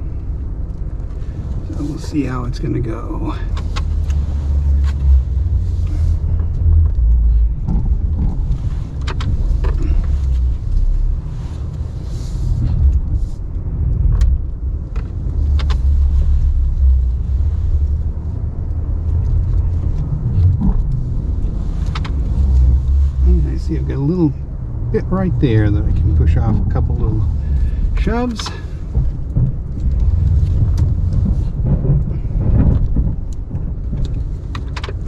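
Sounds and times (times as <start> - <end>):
pickup engine rumble: 0.0 - 35.0.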